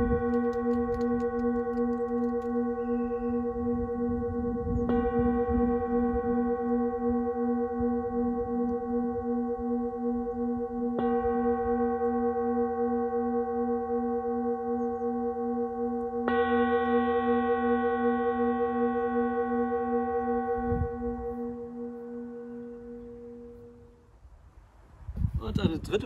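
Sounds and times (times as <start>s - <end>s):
singing bowl ringing: 0.0s - 24.2s.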